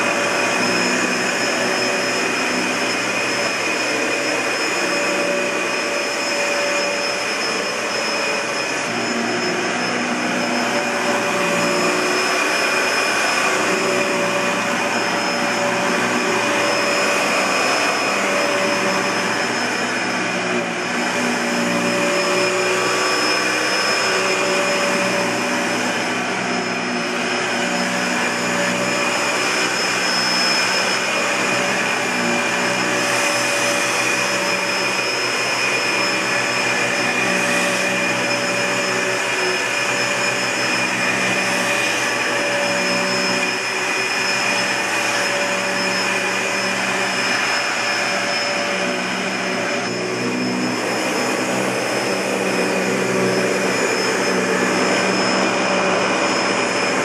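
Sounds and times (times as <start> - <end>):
high motor whine: 0.0 - 57.0
vacuum cleaner on carpet: 0.0 - 57.0.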